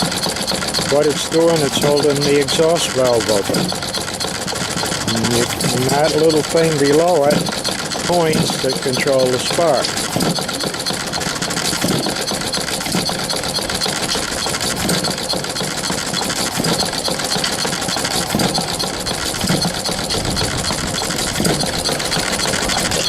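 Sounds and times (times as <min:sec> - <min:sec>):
hit-and-miss engine firing: 0:00.0 - 0:23.0
valve gear ticking: 0:00.0 - 0:23.0.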